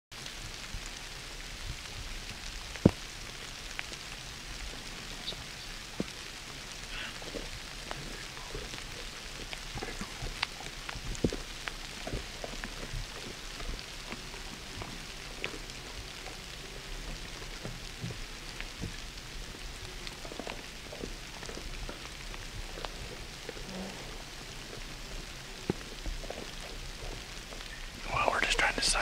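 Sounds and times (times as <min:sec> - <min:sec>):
rain pattering on woods: 0:00.1 - 0:29.0.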